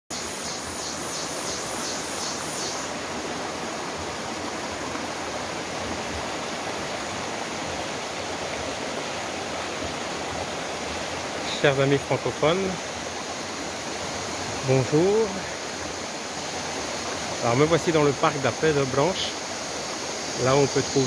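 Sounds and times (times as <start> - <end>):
stream rushing over boulders: 0.1 - 21.0.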